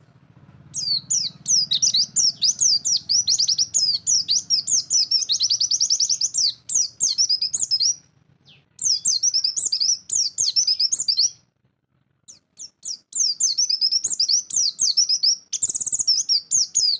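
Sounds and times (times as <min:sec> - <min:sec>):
bird twittering song: 0:00.7 - 0:11.4, 0:12.3 - 0:16.9.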